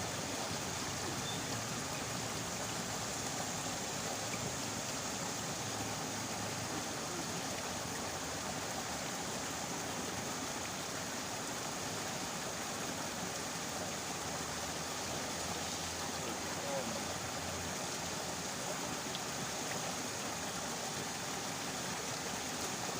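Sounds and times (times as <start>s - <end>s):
water rushing: 0.0s - 22.9s.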